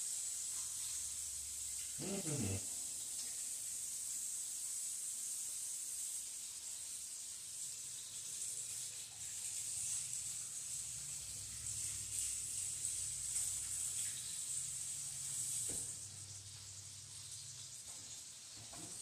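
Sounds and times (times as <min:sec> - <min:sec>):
burger patties sizzling in pan: 0:00.0 - 0:19.0.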